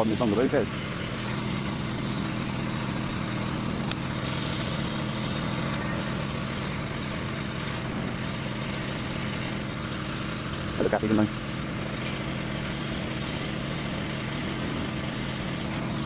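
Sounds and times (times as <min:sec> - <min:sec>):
engine humming steadily: 0:00.0 - 0:16.0
faint high whine: 0:00.0 - 0:16.0.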